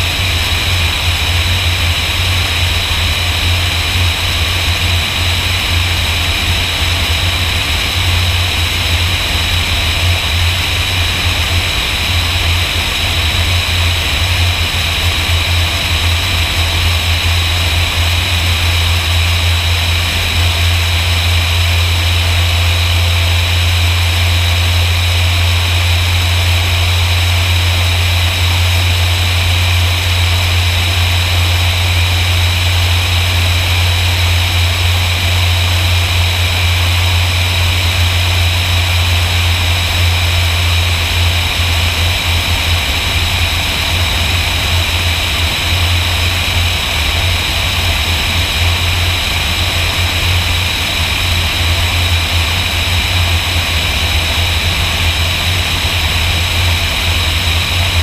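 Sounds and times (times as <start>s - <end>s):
propeller airplane engine drone: 0.0s - 58.0s.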